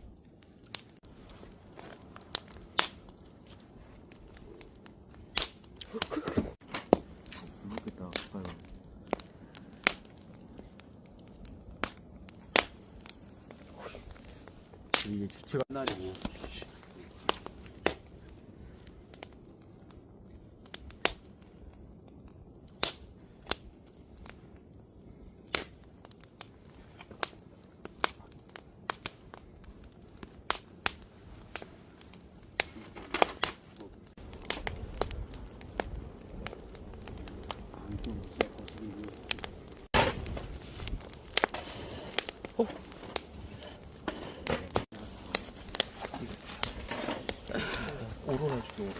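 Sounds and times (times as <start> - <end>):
campfire crackling and popping: 0.0 - 48.9
low rumble of flames: 0.0 - 48.9.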